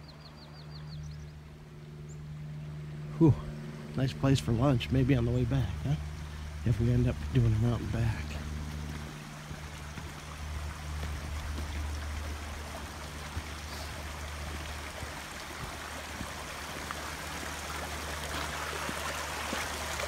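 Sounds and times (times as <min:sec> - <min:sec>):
low steady hum: 0:00.0 - 0:20.0
stream trickling over stones: 0:03.9 - 0:20.0.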